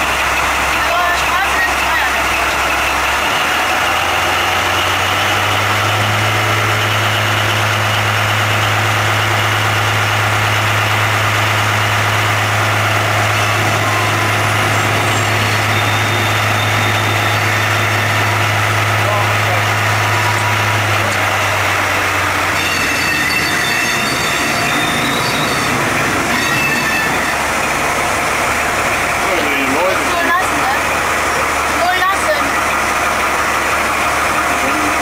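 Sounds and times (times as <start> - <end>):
diesel railcar engine drone: 0.0 - 35.0.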